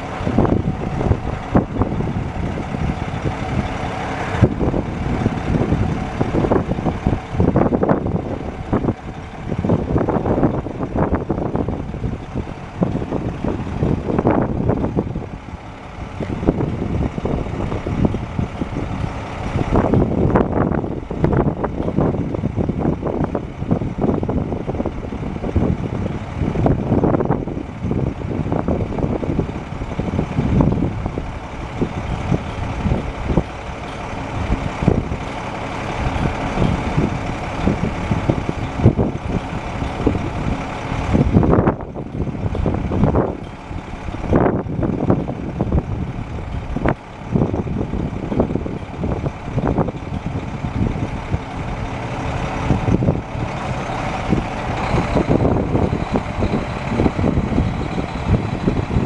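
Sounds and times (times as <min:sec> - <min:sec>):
truck diesel engine rumbling: 0:00.0 - 0:59.0.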